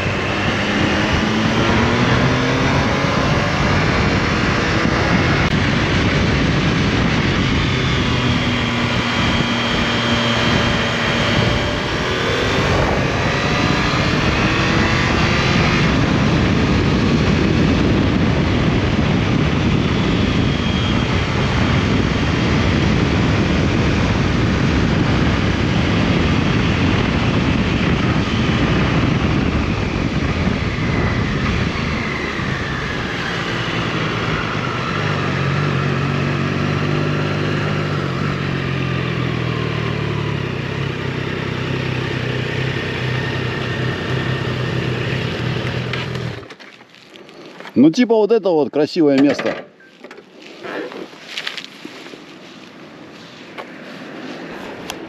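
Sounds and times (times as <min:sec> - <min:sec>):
heavy wind rush: 0:00.0 - 0:46.5, 0:50.1 - 0:55.0
motorcycle engine rising and falling: 0:00.0 - 0:47.9, 0:49.2 - 0:55.0.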